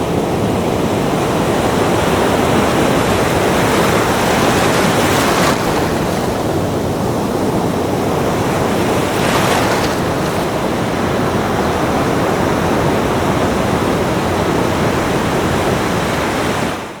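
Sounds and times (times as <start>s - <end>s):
ocean waves breaking on beach: 0.0s - 17.0s.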